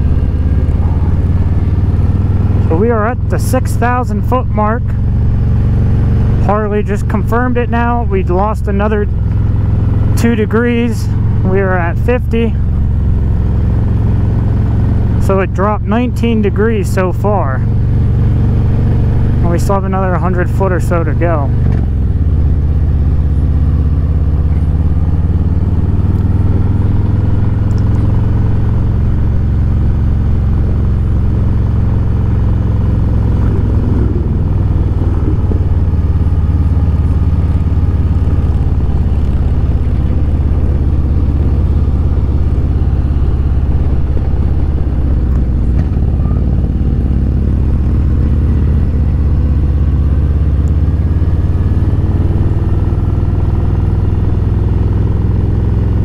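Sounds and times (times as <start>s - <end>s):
motorcycle engine droning: 0.0s - 56.0s.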